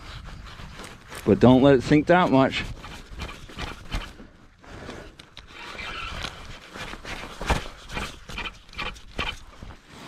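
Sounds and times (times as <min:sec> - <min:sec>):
rustling: 0:00.0 - 0:10.0.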